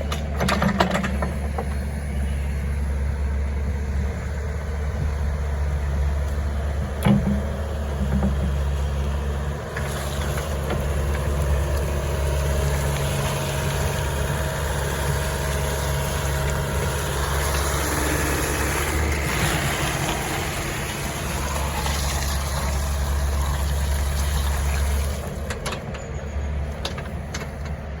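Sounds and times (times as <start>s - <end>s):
excavator diesel engine droning: 0.0s - 28.0s.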